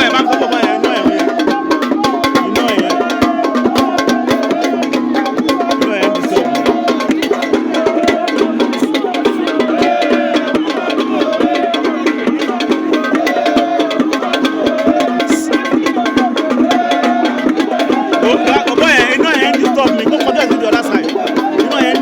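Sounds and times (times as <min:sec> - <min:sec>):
fast percussion clicks: 0:00.0 - 0:22.0.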